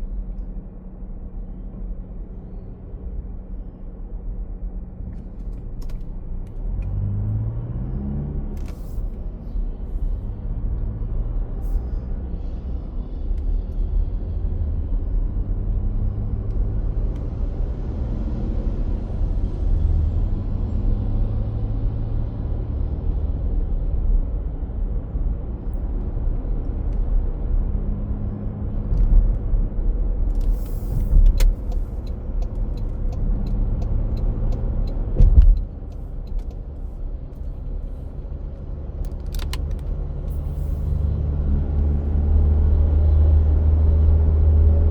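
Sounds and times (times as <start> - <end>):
vehicle engine low rumble: 0.0 - 44.9.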